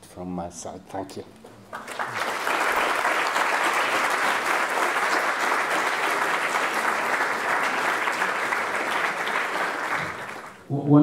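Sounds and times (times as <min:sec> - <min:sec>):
audience applauding: 0:01.5 - 0:10.7.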